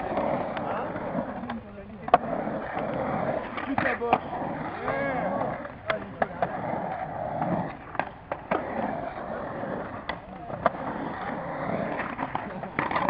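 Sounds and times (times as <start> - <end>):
skateboard clacking on coping: 0.0 - 13.0
skateboard wheels rumbling on concrete: 0.0 - 13.0.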